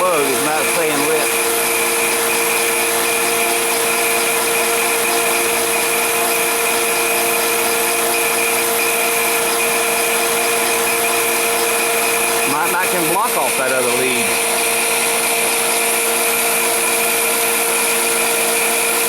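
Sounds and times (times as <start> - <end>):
heater blower rush: 0.0 - 19.0
motor hum: 0.0 - 19.0.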